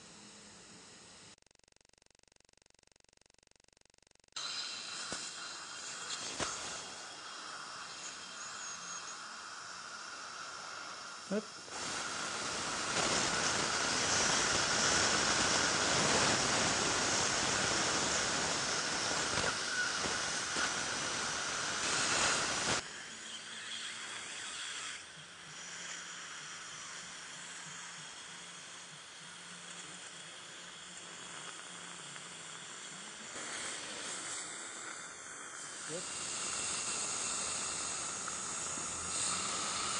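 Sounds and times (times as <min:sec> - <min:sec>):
dental drill hissing: 0:00.0 - 0:01.4, 0:04.4 - 0:39.9.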